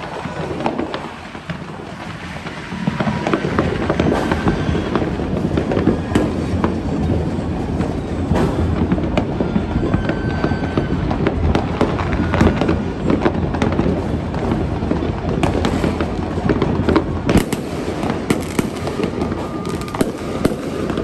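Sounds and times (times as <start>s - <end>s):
fireworks bangs: 0.0s - 21.0s
fireworks crackling and popping: 0.0s - 21.0s.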